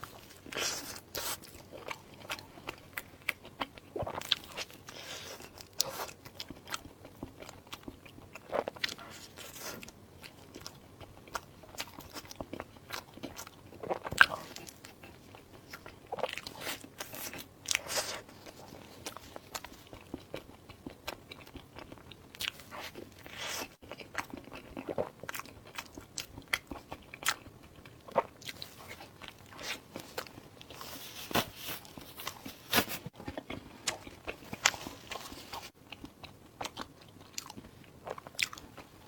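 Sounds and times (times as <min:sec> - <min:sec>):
crunchy chewing: 0:00.0 - 0:39.0.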